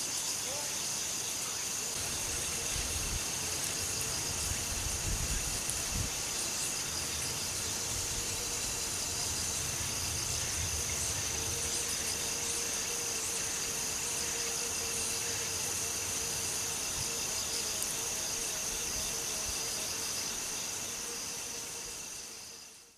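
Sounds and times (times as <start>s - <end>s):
insects chirring: 0.0s - 22.9s.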